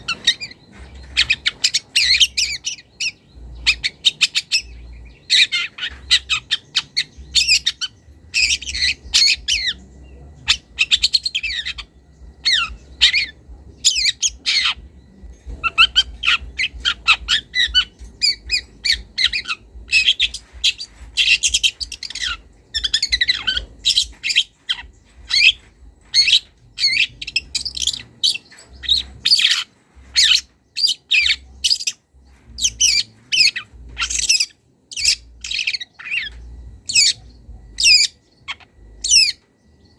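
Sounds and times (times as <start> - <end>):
shrike chattering song: 0.0 - 39.9.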